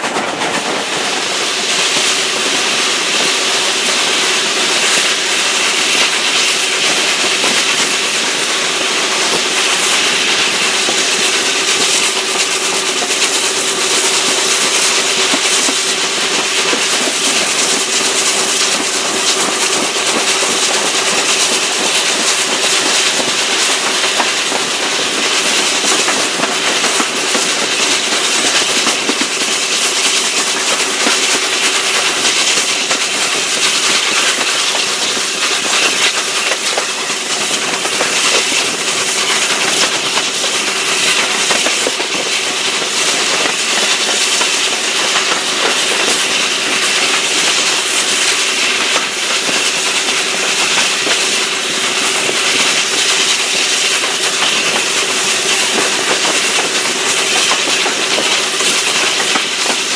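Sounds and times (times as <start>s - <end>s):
wheel-on-rail noise: 0.0s - 59.9s.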